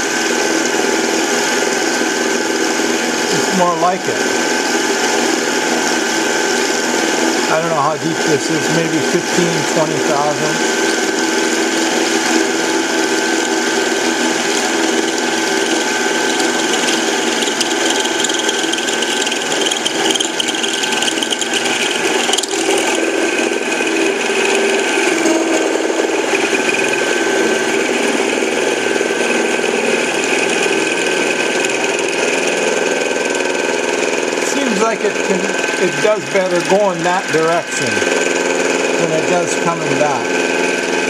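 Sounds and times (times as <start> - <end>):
cutter cutting metal: 0.0 - 41.0
lathe motor whine: 0.0 - 41.0.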